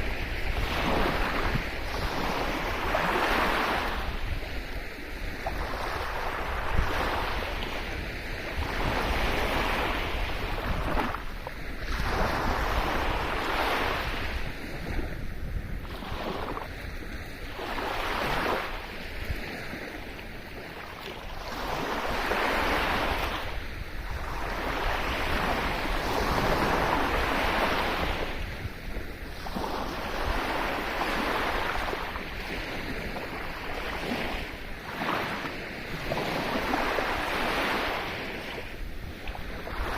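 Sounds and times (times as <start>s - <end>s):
sea waves washing onto shore: 0.0s - 39.9s
wind rumble on microphone: 0.0s - 39.9s.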